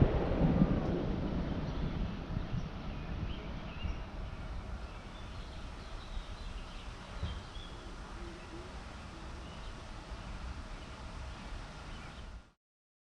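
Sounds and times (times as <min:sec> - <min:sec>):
low unsteady rumble: 0:00.0 - 0:12.5
faint birds chirping: 0:01.3 - 0:12.6.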